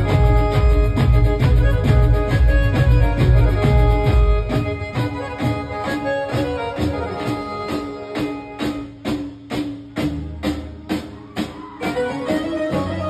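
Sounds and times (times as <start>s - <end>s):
percussion beat: 0.0s - 13.0s.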